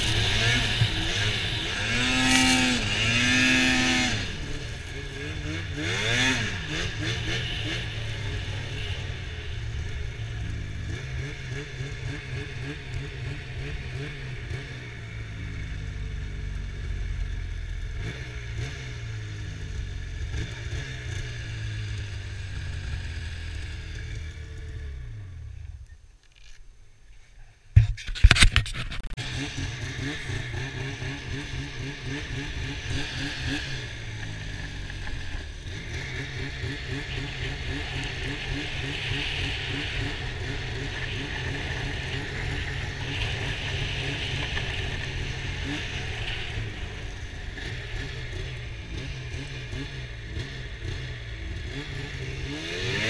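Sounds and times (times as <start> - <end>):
snowmobile engine revving: 0.0 - 25.5, 28.7 - 53.0.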